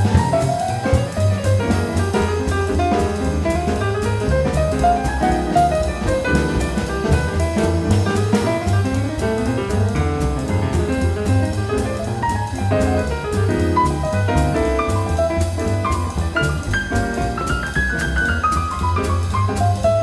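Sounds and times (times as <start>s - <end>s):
drum kit cymbals: 0.0s - 20.0s
piano: 0.0s - 20.0s
plucked double bass: 0.0s - 20.0s.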